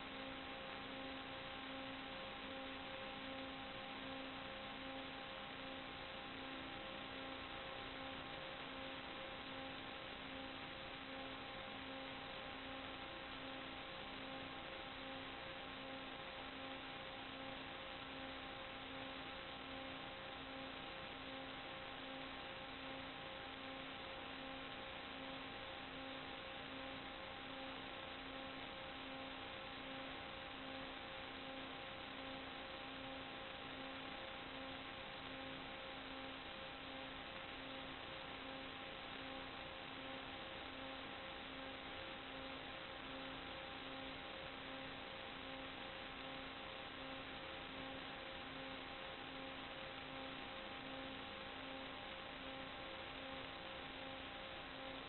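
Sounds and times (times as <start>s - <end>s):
electrical hum: 0.0s - 55.0s
radio link hiss: 0.0s - 55.0s.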